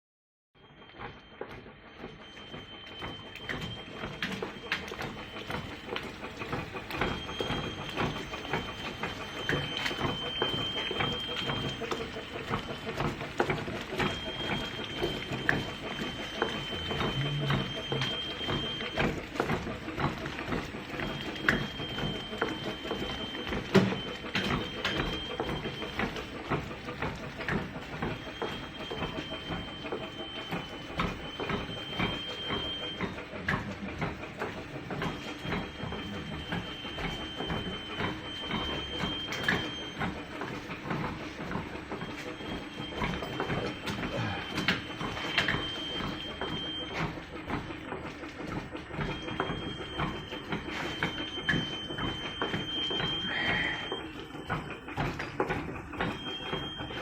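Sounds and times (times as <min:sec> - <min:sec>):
steady mechanical noise: 0:00.6 - 0:57.0
thin high machine whine: 0:00.6 - 0:57.0
machine clicking and clattering: 0:00.8 - 0:57.0.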